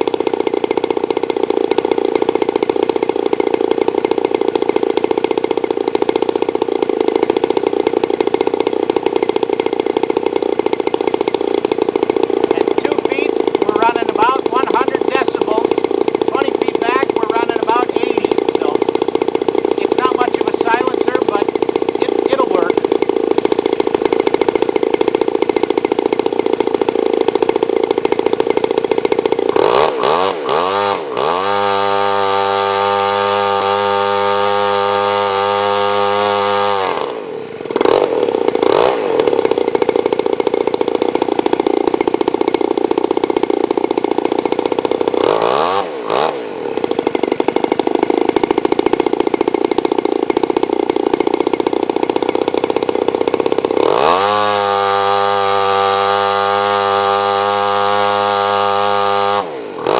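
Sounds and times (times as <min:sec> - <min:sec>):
model engine running: 0:00.0 - 0:59.9.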